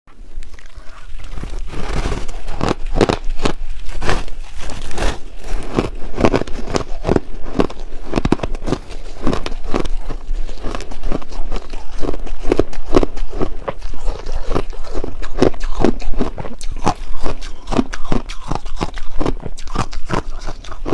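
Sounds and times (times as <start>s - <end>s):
ice being chewed: 0.3s - 20.9s.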